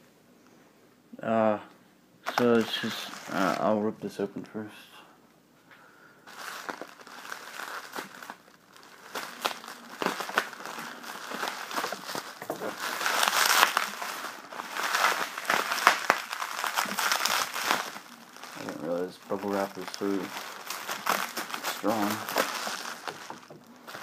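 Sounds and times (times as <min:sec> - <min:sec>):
bubble wrap crinkling: 0:02.2 - 0:03.9, 0:06.2 - 0:24.0.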